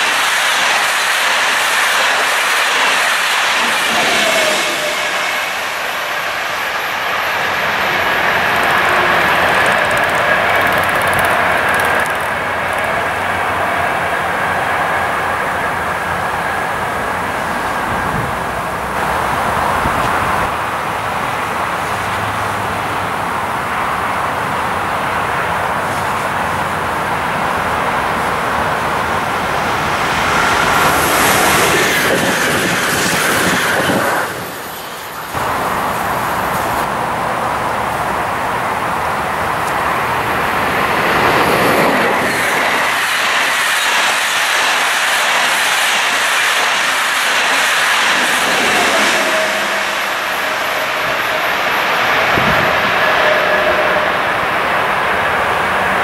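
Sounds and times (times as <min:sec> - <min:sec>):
electric train passing: 0:00.0 - 0:56.0
wheels clickety-clack on rails: 0:06.5 - 0:56.0.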